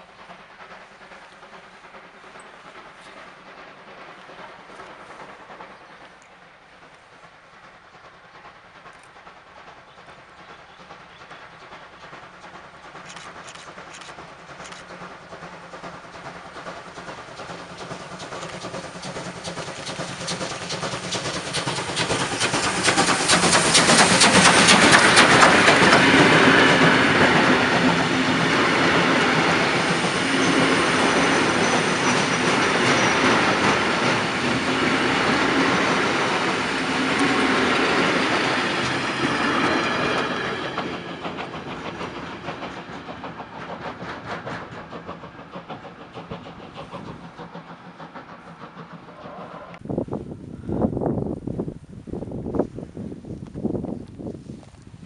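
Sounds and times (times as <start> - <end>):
steam locomotive passing: 0.0 - 55.0.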